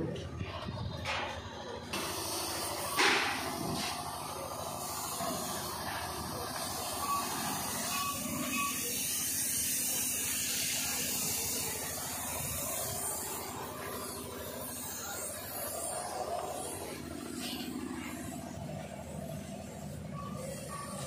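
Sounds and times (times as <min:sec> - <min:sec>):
spray gun hissing: 0:02.0 - 0:20.6.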